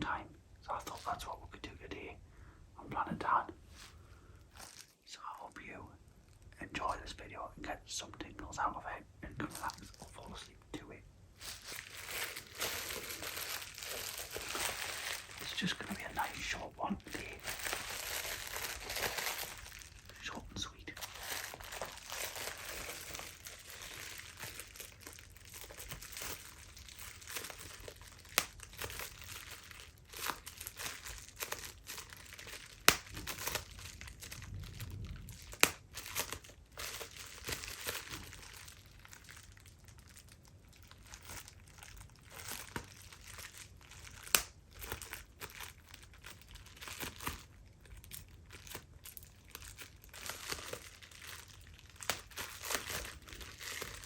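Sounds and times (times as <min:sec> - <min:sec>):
bubble wrap crinkling: 0:00.7 - 0:01.4, 0:03.6 - 0:07.2, 0:09.4 - 0:54.0.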